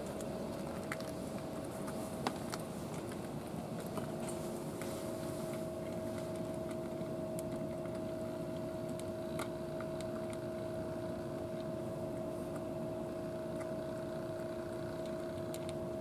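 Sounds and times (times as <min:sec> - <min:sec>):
cat crunching dry food: 0:00.0 - 0:16.0
two-tone machine hum: 0:00.0 - 0:16.0.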